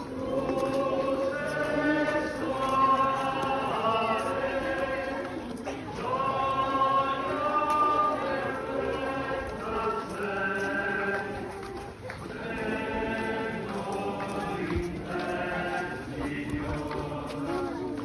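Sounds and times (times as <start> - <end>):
group singing a hymn: 0.0 - 18.0.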